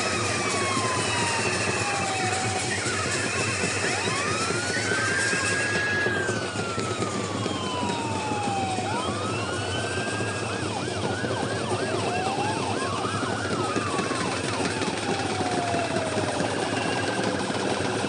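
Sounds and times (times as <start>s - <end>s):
siren wailing: 0.0s - 18.0s.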